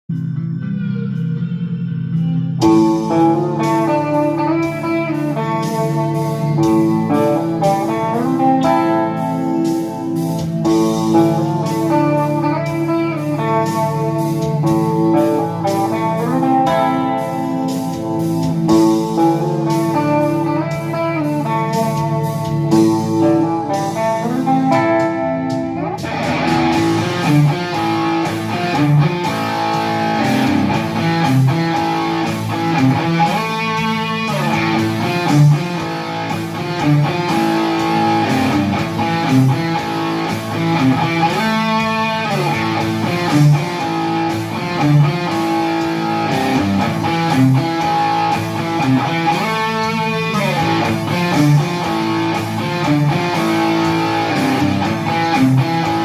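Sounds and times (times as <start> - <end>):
electric guitar riffs and chords: 0.0 - 56.0.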